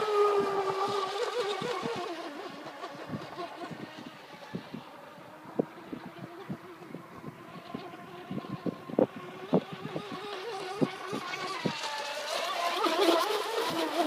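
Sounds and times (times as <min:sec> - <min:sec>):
model boat motor running: 0:00.0 - 0:14.0.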